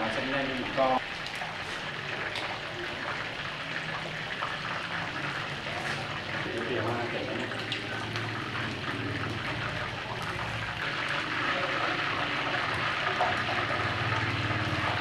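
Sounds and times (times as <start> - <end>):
wings sizzling in hot oil: 0.0 - 15.0.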